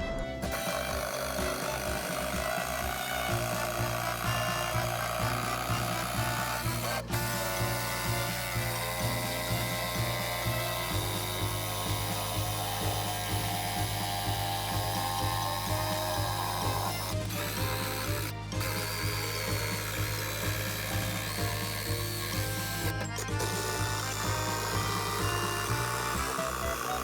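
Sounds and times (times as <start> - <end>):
background music with steady beat: 0.0 - 27.0
power tool and ratchet noise: 0.3 - 27.0.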